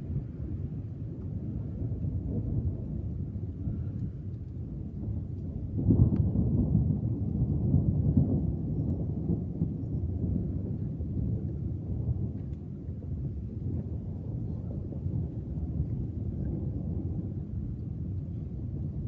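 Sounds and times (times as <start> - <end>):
thunder rumbling: 0.0 - 19.0.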